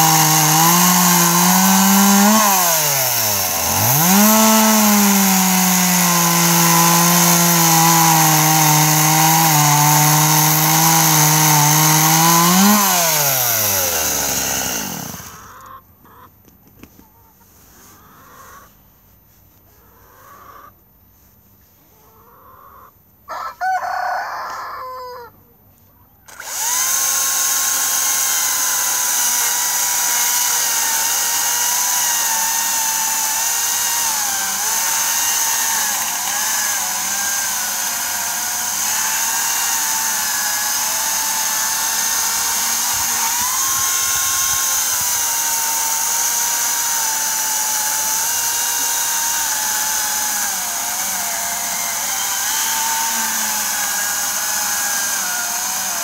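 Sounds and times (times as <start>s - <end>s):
battery chainsaw cutting log: 0.0s - 15.6s, 26.3s - 56.0s.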